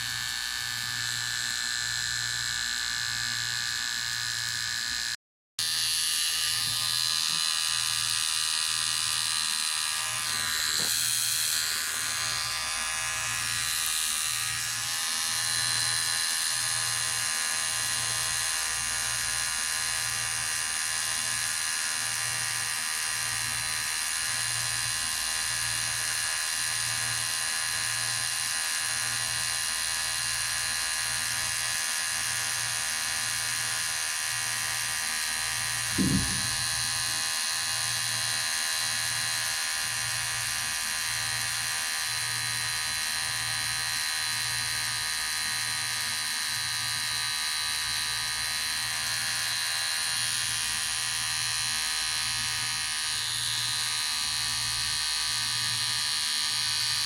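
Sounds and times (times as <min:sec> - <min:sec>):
electric hair clipper buzzing: 0:00.0 - 0:57.0.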